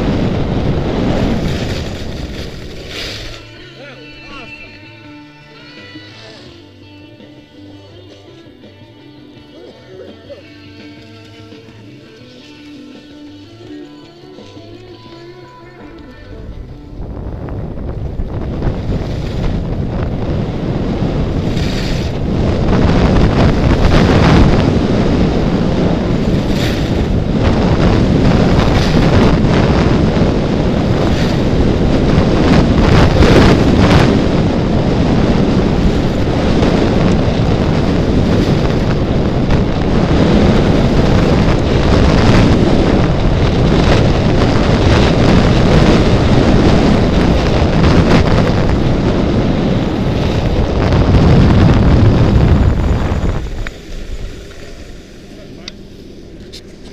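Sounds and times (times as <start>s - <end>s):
wind buffeting microphone: 0.0s - 3.6s, 9.5s - 56.9s.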